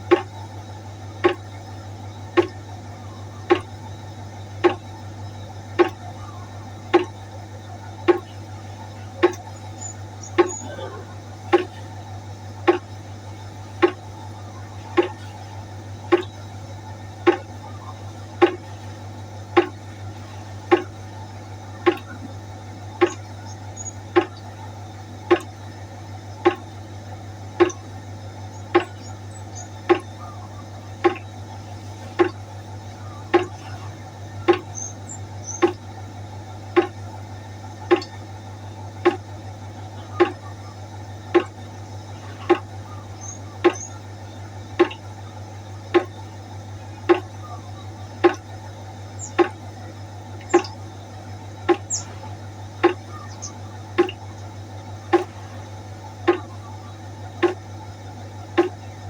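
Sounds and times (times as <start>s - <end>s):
steady low hum: 0.0s - 59.0s
water dripping into a pot: 0.0s - 59.0s.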